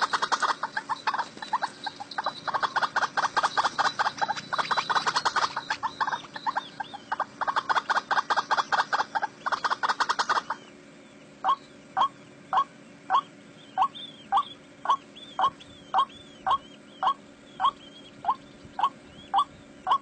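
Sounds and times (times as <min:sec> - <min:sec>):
waterhen calling: 0:00.0 - 0:10.8, 0:11.4 - 0:20.0.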